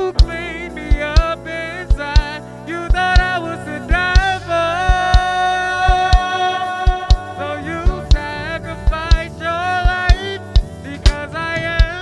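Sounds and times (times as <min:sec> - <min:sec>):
gospel song with drum beat: 0:00.0 - 0:12.0.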